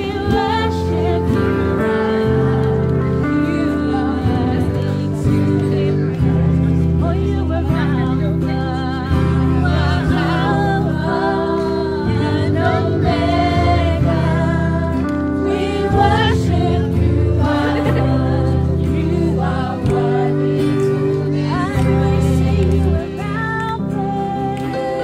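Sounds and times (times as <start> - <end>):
gospel choir singing: 0.0 - 6.7, 8.7 - 25.0.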